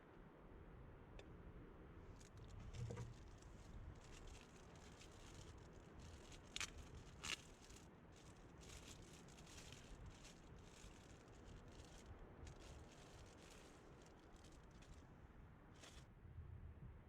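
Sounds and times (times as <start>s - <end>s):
faint rustling: 2.1s - 16.0s
short crisp rustles: 2.2s - 16.1s.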